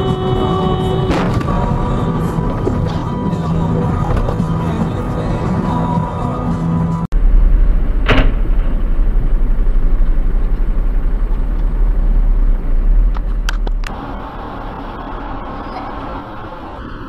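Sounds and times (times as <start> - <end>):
engine and road noise rumble: 0.0 - 17.0.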